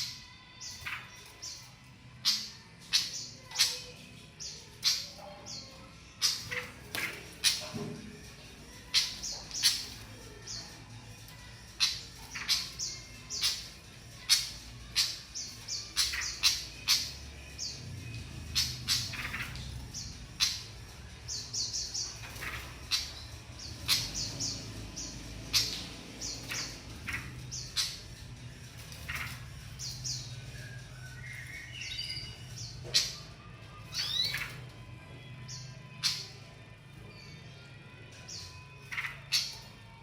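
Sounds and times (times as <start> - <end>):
bird chirping: 0.0 - 40.0.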